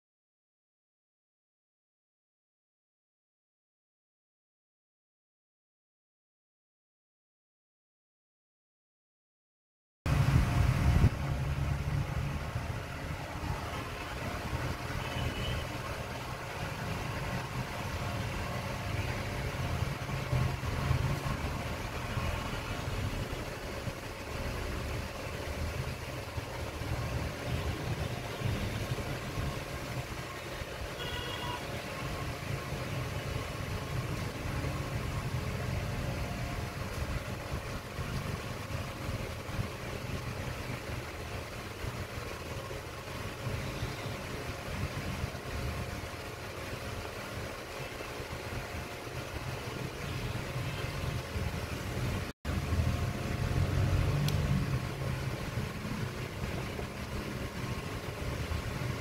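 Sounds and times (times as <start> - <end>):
low rumbling background noise: 10.1 - 59.0.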